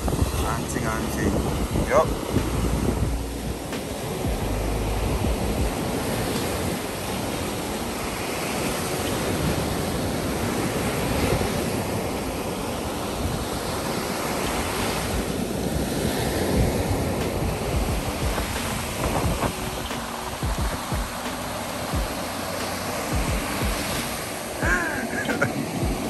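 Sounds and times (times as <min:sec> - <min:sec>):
sea surf breaking on beach: 0:00.0 - 0:26.0.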